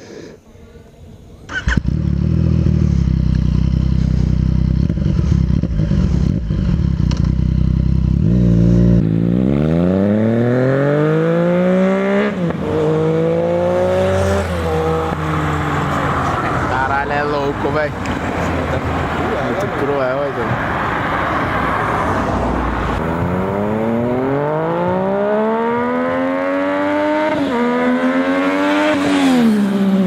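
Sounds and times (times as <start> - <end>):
car engine revving: 1.5 - 30.0.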